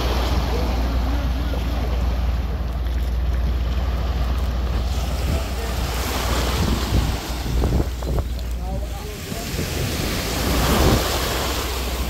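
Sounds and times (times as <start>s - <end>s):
small waves lapping on shore: 0.0s - 12.0s
wind rumbling on microphone: 0.0s - 12.0s.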